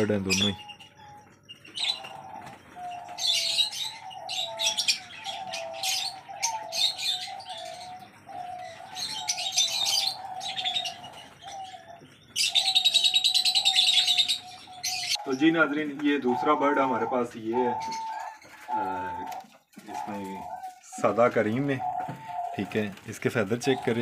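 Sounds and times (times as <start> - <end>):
doves cooing: 0.0 - 24.0
small birds chirping: 0.0 - 24.0.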